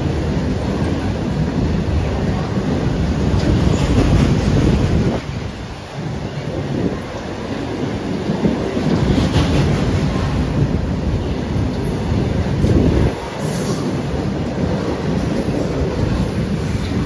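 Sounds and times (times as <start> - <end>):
freight train passing: 0.0 - 17.0
steel wheels clattering on rails: 0.0 - 17.0.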